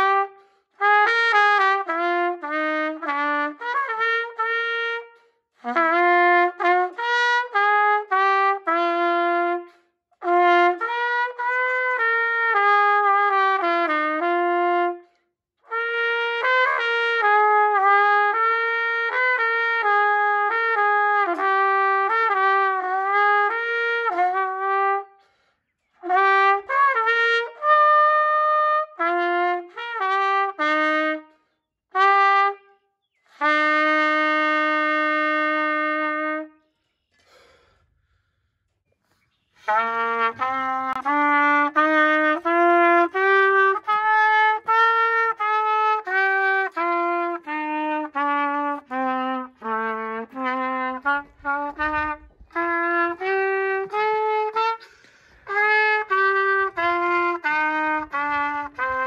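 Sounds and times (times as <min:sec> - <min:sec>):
solo trumpet playing: 0:00.0 - 0:37.4, 0:39.5 - 0:59.0.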